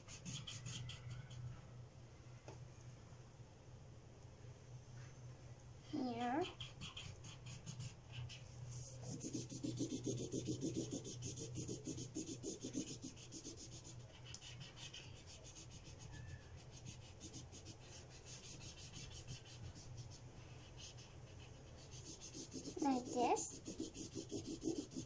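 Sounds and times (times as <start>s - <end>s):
marker scrubbing on paper: 0.0s - 1.4s, 6.0s - 25.0s.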